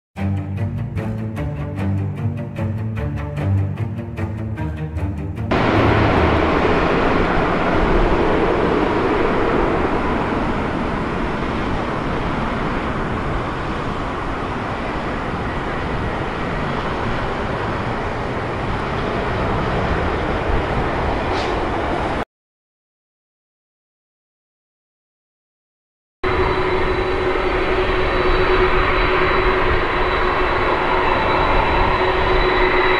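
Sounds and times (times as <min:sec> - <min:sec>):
jet engines rushing: 0:00.3 - 0:22.2, 0:26.2 - 0:32.9.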